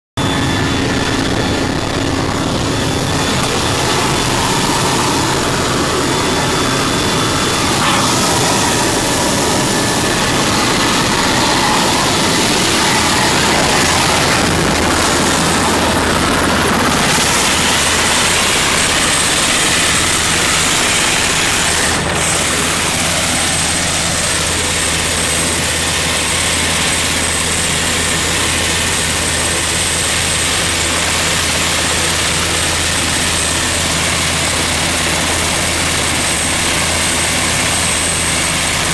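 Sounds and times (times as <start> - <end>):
helicopter running: 0.2 - 38.9.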